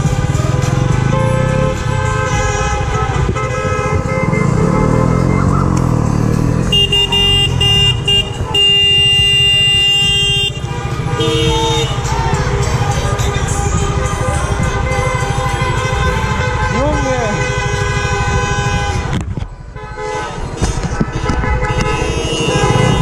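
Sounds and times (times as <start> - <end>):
car horns honking: 0.0 - 23.0
traffic rumble: 0.0 - 23.0.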